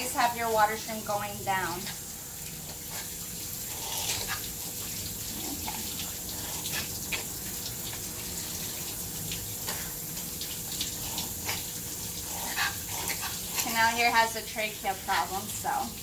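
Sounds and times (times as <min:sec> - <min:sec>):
shower sprayer water running: 0:00.0 - 0:16.0
water splashing into metal tub: 0:00.0 - 0:16.0.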